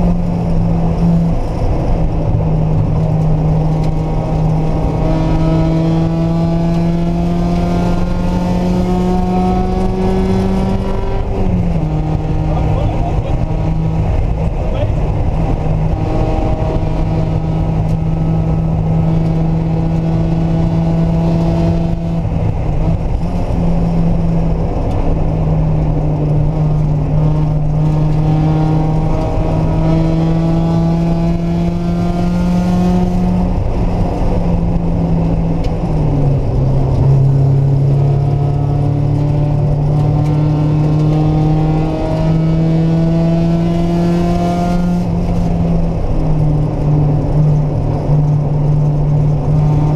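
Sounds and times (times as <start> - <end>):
car engine accelerating: 0.0 - 49.9
road and wind rumble: 0.0 - 49.9.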